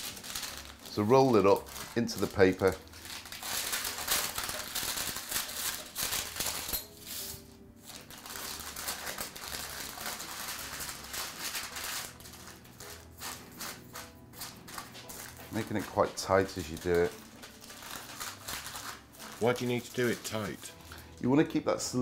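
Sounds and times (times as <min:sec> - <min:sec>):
parchment paper crinkling: 0:00.0 - 0:21.6
soft background music: 0:00.0 - 0:22.0.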